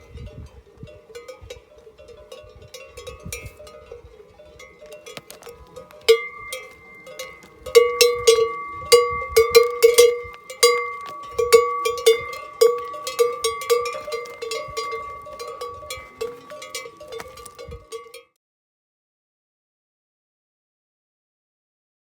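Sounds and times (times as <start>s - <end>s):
cowbells clanking: 0.0s - 18.3s.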